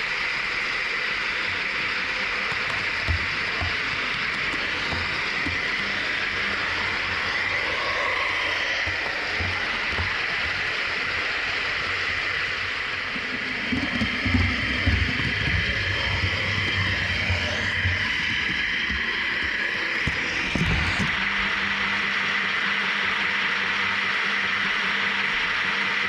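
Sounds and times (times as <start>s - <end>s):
model train wheels and drive whine: 0.0s - 26.0s.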